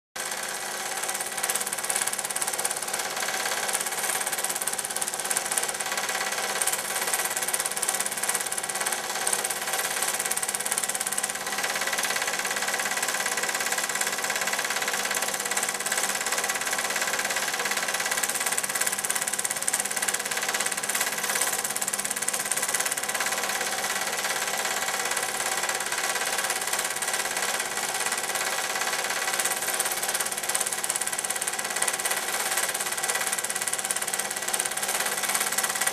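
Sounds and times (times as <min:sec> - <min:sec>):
film projector whirring: 0:00.2 - 0:35.9.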